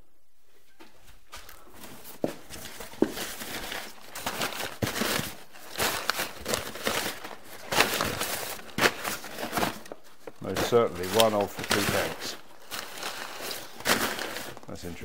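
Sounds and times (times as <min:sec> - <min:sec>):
packing paper rustling: 0:01.6 - 0:15.0.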